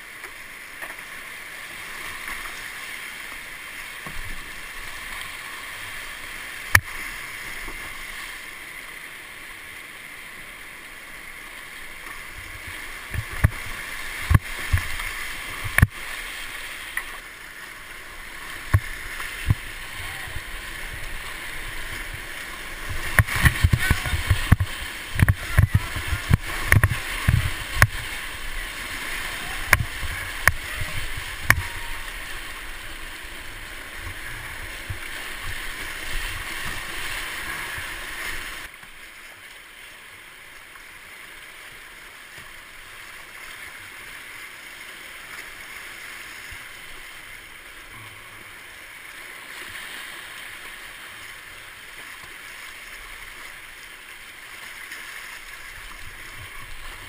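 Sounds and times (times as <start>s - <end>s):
whitewater rapids rushing: 0.0s - 57.0s.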